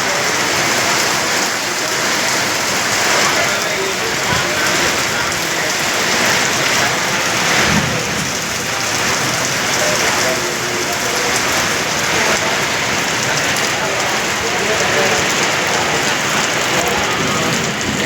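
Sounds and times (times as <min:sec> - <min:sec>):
heavy rain on hard surfaces: 0:00.0 - 0:18.0.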